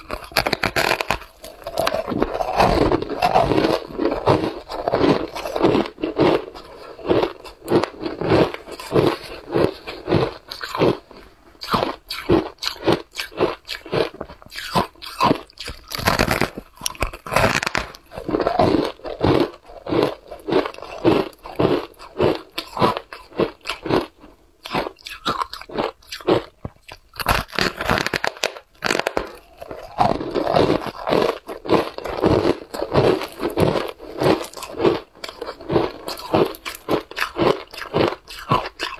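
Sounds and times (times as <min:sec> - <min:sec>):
ice crunching while chewing: 0:00.0 - 0:38.9.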